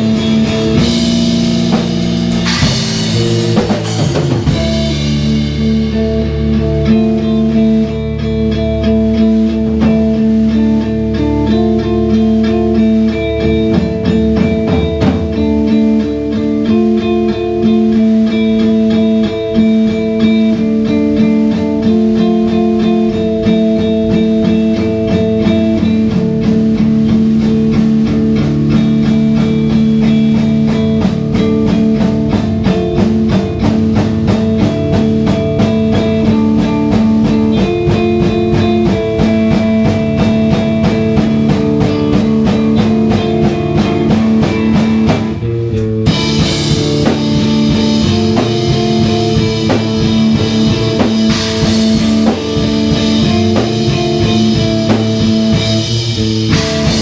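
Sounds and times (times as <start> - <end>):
live instrumental rock band: 0.0 - 57.0.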